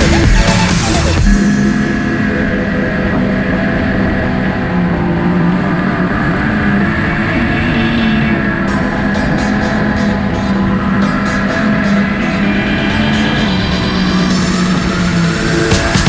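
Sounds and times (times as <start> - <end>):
music with a beat: 0.0 - 6.4, 8.7 - 16.0
snowmobile engine running: 0.0 - 7.8, 8.6 - 16.0.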